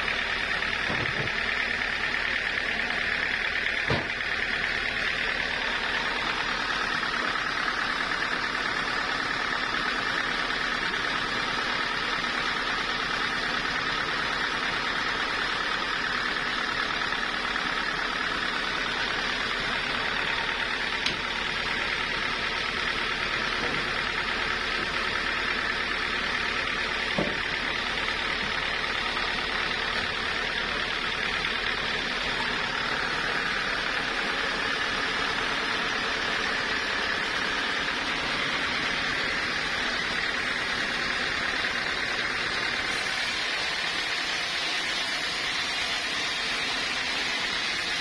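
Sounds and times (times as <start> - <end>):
sawmill machinery running: 0.0 - 48.0.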